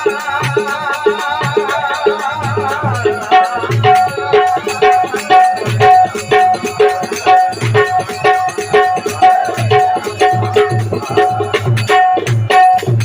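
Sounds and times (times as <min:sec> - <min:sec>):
tuned hand drum rhythm: 0:00.0 - 0:13.0.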